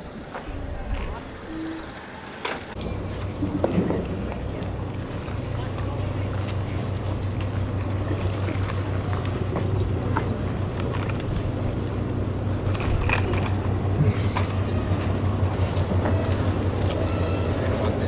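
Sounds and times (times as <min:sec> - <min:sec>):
ferry engine droning: 0:00.0 - 0:18.0.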